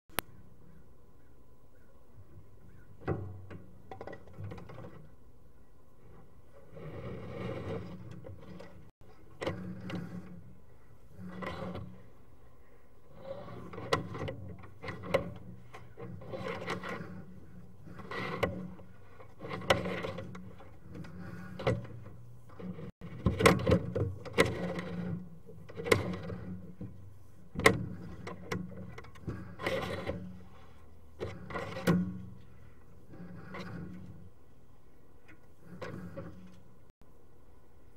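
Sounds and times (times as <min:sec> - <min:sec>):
cable scraping and clunking in pipe: 0:02.3 - 0:05.3, 0:06.0 - 0:37.1.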